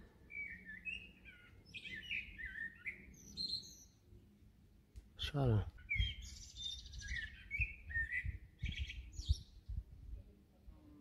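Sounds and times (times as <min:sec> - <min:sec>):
songbird chirping and warbling: 0:00.0 - 0:11.0.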